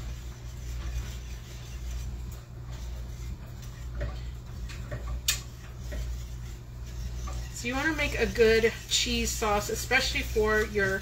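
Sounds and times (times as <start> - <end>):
metal whisk ticking against pot: 0.0 - 11.0
steady low hum: 0.0 - 11.0.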